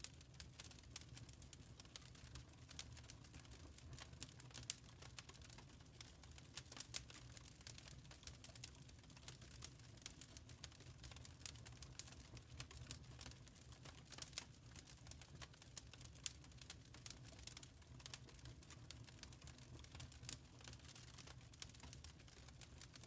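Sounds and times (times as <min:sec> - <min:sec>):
faint wood fire crackling: 0:00.0 - 0:23.0.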